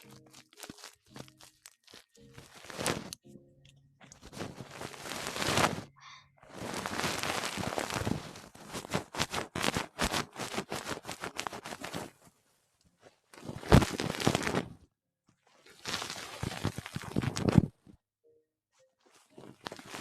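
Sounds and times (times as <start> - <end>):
close rustling and scratching: 0.0 - 3.2, 4.0 - 14.7, 15.8 - 17.8, 19.0 - 20.0
crackling scratches: 0.0 - 3.2, 4.0 - 14.8, 15.8 - 17.8, 19.1 - 20.0.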